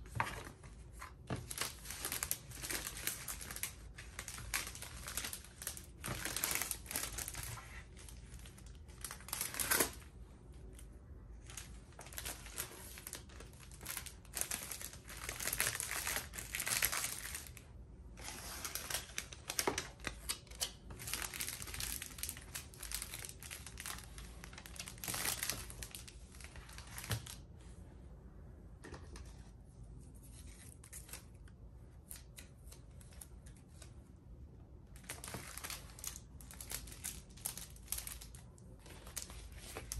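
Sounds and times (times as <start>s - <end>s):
plastic sleeves crinkling: 0.0s - 27.5s, 34.9s - 39.9s.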